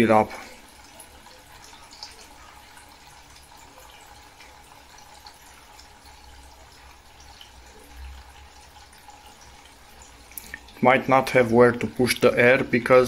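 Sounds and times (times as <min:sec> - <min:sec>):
water rushing through pipes: 0:00.0 - 0:13.0.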